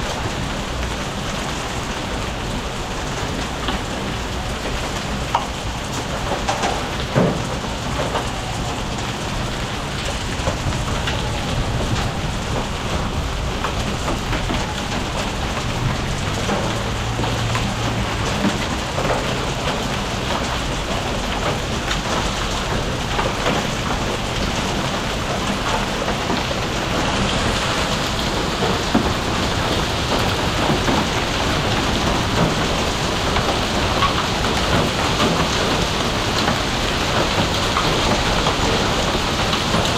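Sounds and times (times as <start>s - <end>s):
heavy rain falling: 0.0s - 39.9s
raindrops ticking on hard surfaces: 0.0s - 39.9s.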